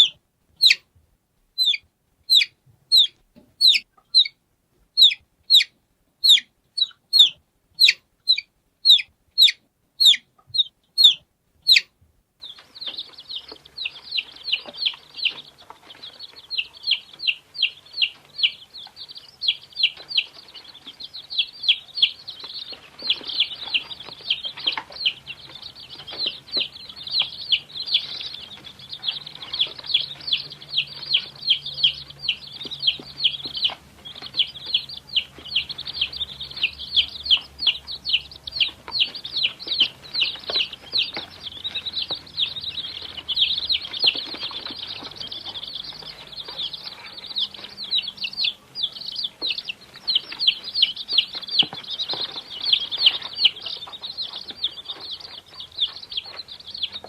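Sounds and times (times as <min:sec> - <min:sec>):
baby chicks peeping: 0:00.0 - 0:57.0.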